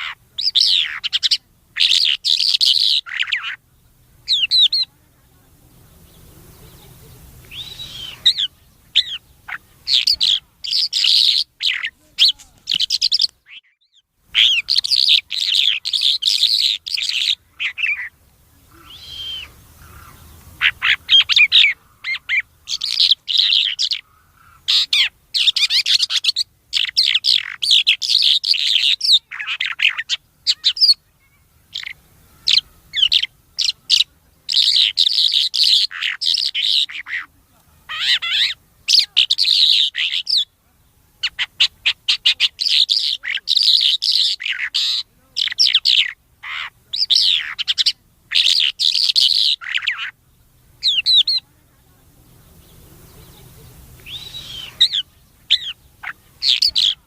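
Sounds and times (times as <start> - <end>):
songbird chirps and whistles: 0.0 - 4.9, 5.8 - 37.3, 37.9 - 40.5, 41.2 - 51.5, 52.3 - 57.0.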